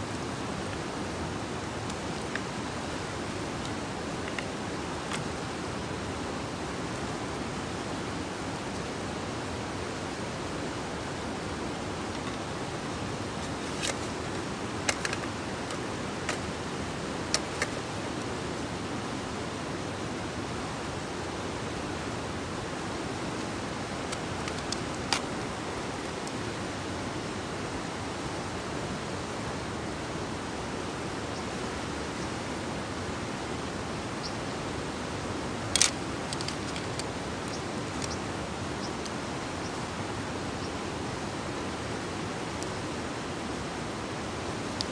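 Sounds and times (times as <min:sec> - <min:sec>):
campfire hissing: 0:00.0 - 0:44.9
steady rushing noise: 0:00.0 - 0:44.9.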